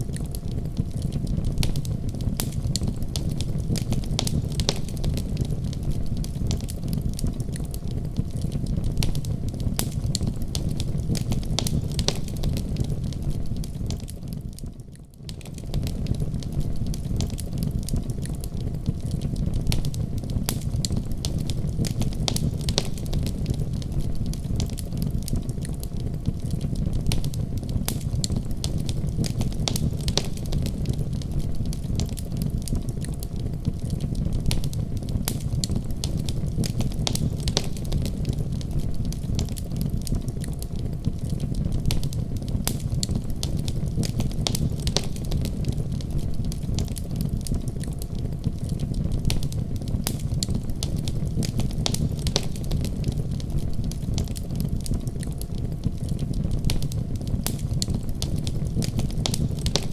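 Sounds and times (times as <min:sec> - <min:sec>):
crackles and pops of burning logs: 0:00.0 - 0:59.9
low rumble of fire flames: 0:00.0 - 0:59.9.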